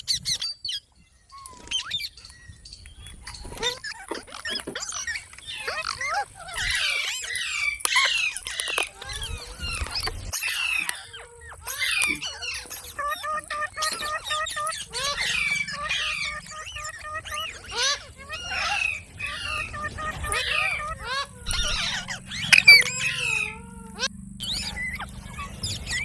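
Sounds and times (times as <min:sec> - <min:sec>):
parrot chattering and squawking: 0:03.2 - 0:26.0.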